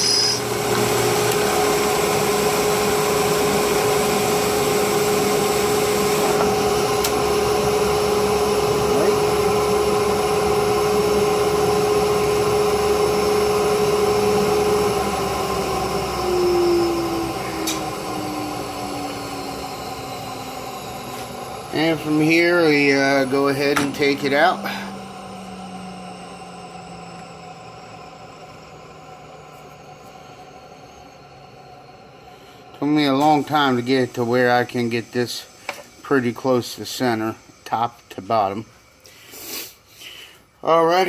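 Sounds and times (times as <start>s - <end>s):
electric drill boring: 0.0s - 40.1s.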